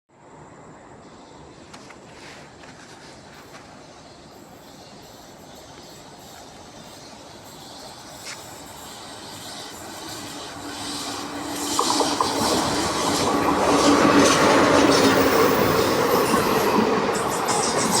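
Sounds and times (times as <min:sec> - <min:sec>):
passenger train rumbling: 0:00.2 - 0:18.0.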